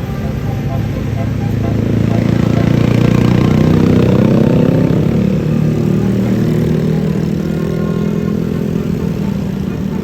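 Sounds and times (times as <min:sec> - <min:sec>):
diesel bus engine droning: 0:00.0 - 0:10.0.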